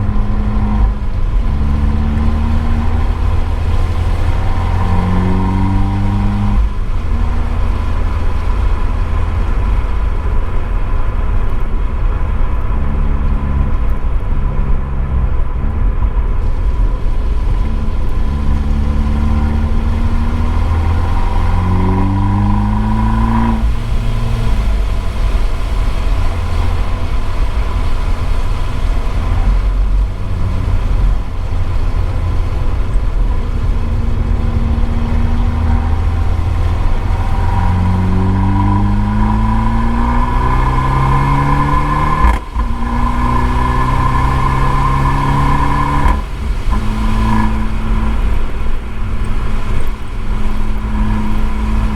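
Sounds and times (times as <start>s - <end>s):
car engine accelerating hard: 0.0s - 51.9s.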